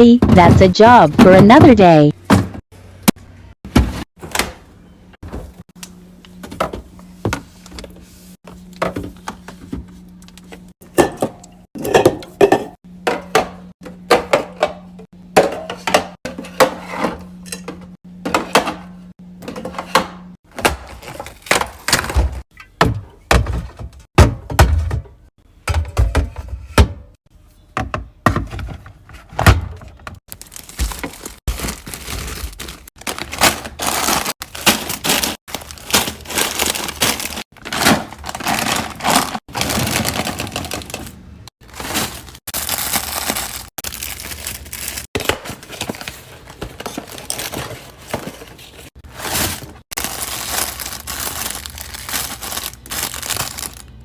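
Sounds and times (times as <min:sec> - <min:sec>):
groceries thunking and clacking: 0:00.0 - 0:04.6, 0:10.8 - 0:27.2, 0:27.8 - 0:54.0.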